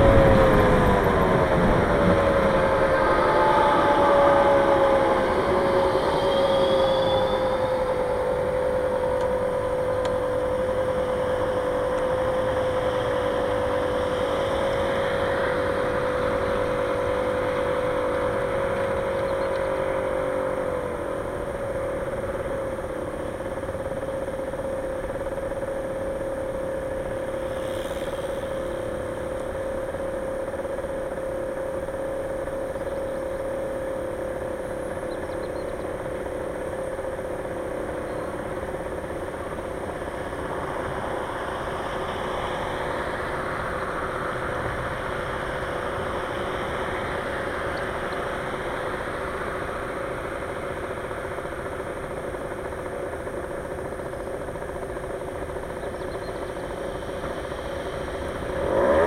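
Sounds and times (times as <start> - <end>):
vehicle engine slowing and idling: 0.0 - 59.0.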